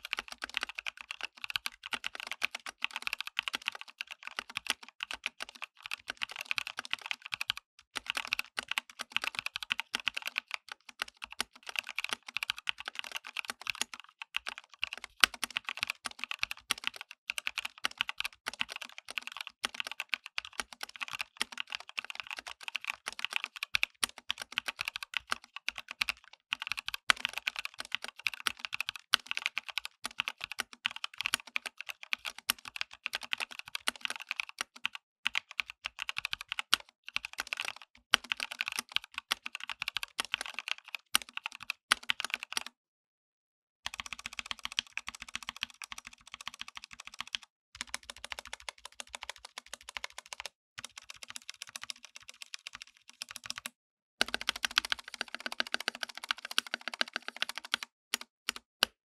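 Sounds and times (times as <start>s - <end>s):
mechanical keyboard typing: 0.0s - 42.7s, 43.9s - 59.0s.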